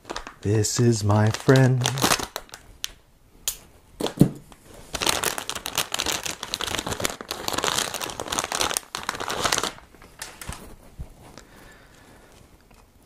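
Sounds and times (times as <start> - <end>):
plastic bag crinkling: 0.0 - 3.0, 4.0 - 11.5.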